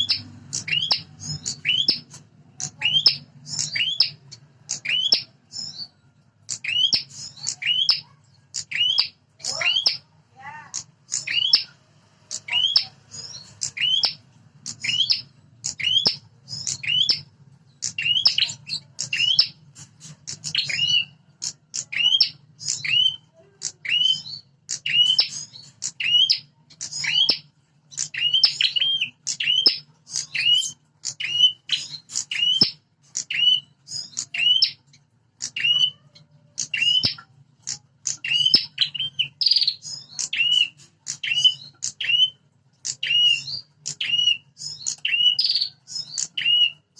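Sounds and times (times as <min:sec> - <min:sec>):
bird scolding chirps: 0:00.0 - 0:46.9.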